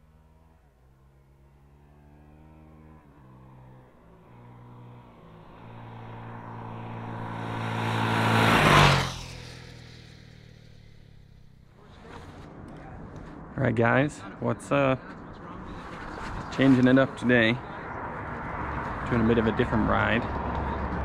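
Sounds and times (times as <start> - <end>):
motorcycle engine passing: 0.0 - 21.0.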